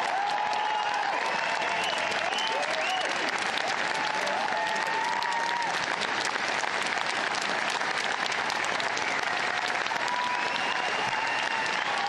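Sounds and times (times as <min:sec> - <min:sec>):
large crowd applauding: 0:00.0 - 0:12.0.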